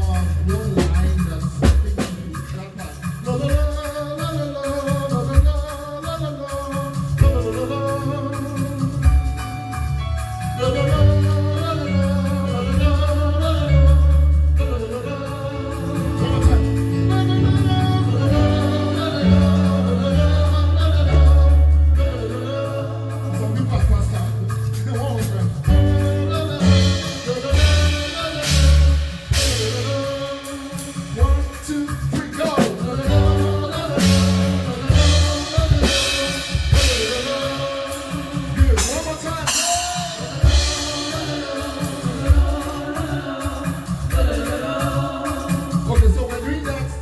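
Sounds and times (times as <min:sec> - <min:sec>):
bass line: 0:00.0 - 0:04.4, 0:06.9 - 0:47.0
drum kit: 0:00.0 - 0:47.0
person singing: 0:00.0 - 0:47.0.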